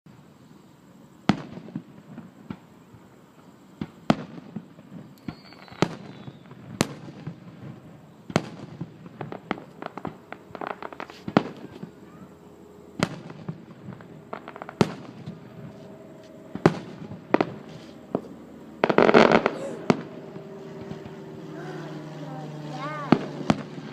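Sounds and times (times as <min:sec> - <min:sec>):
fireworks crackling: 0:00.1 - 0:23.9
firework shells booming: 0:03.8 - 0:12.2, 0:13.0 - 0:23.9.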